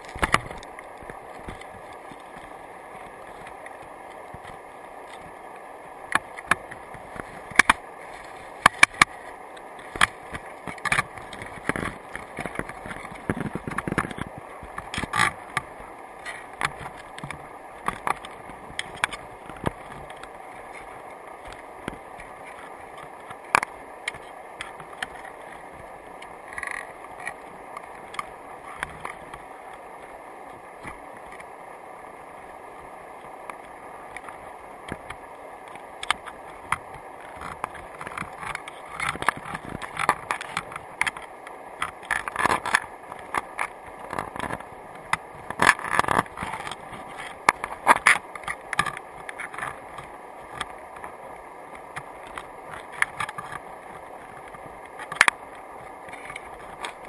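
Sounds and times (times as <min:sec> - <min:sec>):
crabs clicking on camera housing: 0:00.0 - 0:05.3, 0:06.1 - 0:07.9, 0:08.6 - 0:29.5, 0:33.5 - 0:57.0.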